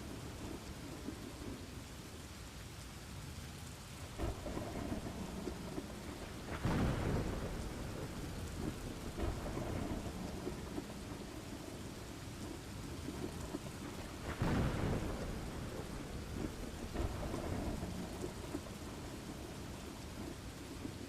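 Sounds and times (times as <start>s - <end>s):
steady rain: 0.0s - 21.0s
rumbling thunder: 4.1s - 21.0s.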